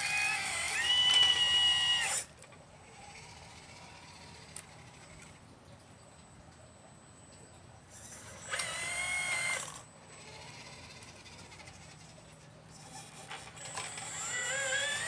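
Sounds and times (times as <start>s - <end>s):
small electric motor whining: 0.0s - 5.4s, 7.9s - 15.0s.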